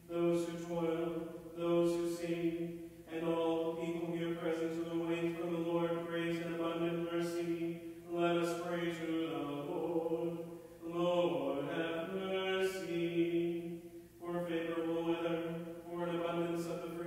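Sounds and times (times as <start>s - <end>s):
man chanting prayers: 0.0s - 17.0s.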